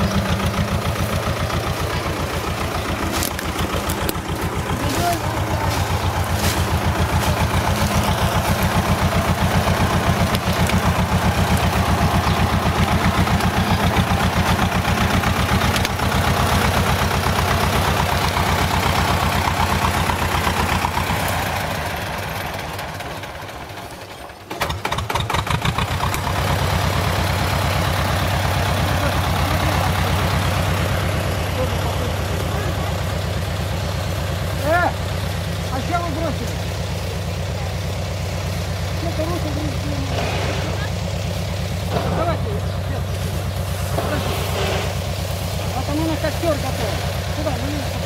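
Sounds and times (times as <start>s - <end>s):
diesel engine chugging: 0.0s - 48.0s.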